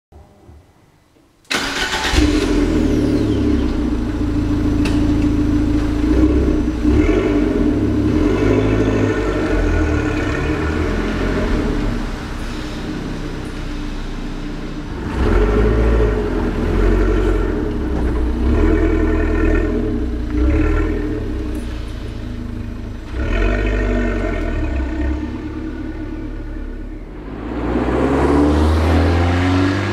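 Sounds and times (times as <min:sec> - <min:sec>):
car engine starting and revving: 0:01.5 - 0:29.9
car pulling away: 0:01.5 - 0:29.9.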